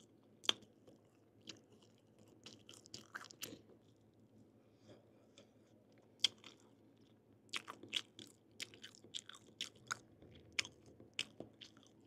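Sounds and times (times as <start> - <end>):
chewing crunchy fruit: 0.0 - 4.0, 6.2 - 12.0.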